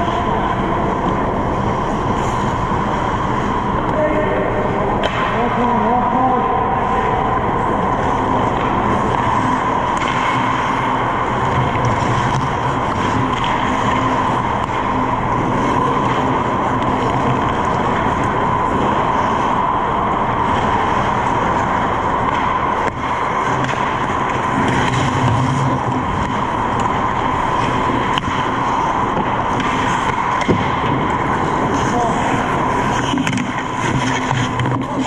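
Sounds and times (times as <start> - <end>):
ice rink hum and hiss: 0.0 - 35.0
skate blades scraping ice: 1.6 - 3.5, 8.0 - 19.6, 20.4 - 35.0.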